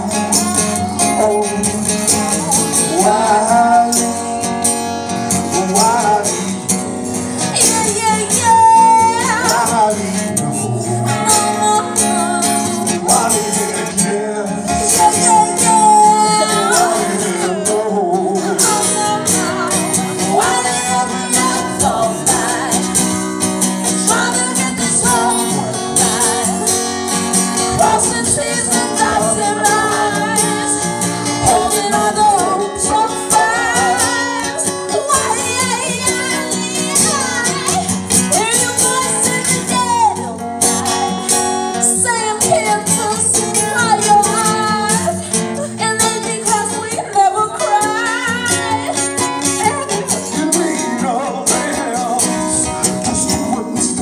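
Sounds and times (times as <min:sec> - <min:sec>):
acoustic guitar strummed: 0:00.0 - 0:54.0
people singing: 0:00.0 - 0:54.0.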